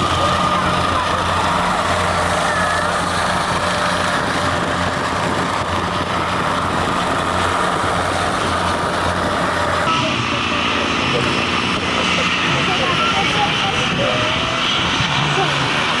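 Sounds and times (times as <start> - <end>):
aircraft engines running: 0.0 - 16.0.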